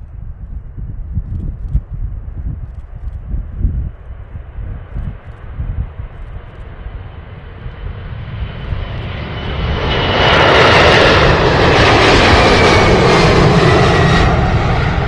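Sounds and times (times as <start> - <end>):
jet engines rumbling at takeoff: 0.0 - 15.0.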